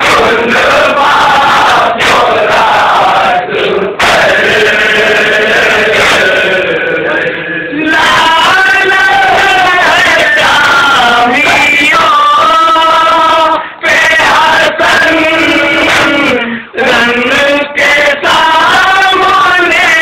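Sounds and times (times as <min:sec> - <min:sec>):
men chanting a lament: 0:00.0 - 0:20.0.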